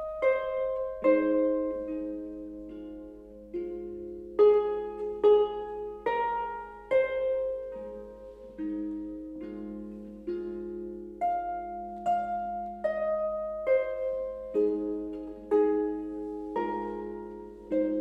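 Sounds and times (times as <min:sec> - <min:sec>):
harp playing solo: 0:00.0 - 0:18.0.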